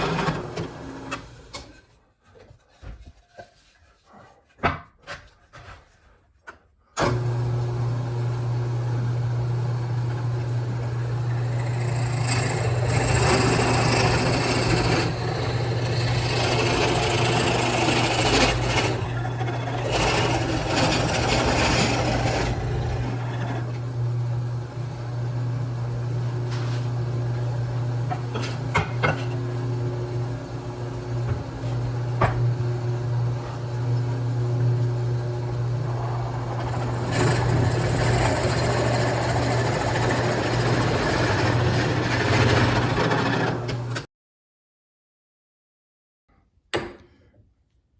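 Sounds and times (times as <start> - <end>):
power tool cutting wood: 0.0 - 1.6, 7.0 - 44.1.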